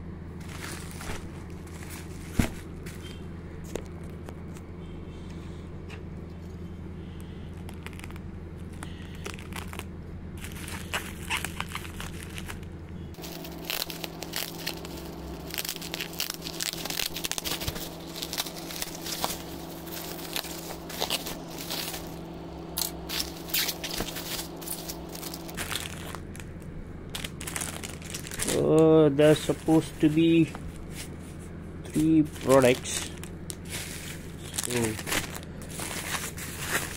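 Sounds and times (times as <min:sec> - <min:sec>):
bubble wrap crinkling and crackling: 0:00.4 - 0:03.2, 0:07.3 - 0:31.3, 0:31.9 - 0:36.9.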